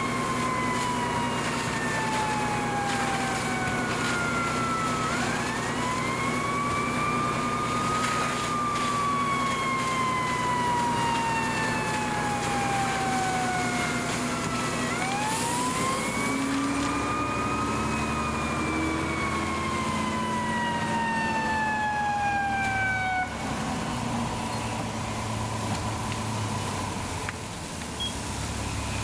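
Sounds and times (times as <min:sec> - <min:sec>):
fire engine siren wailing: 0:00.0 - 0:27.6
low engine rumble: 0:00.0 - 0:29.0.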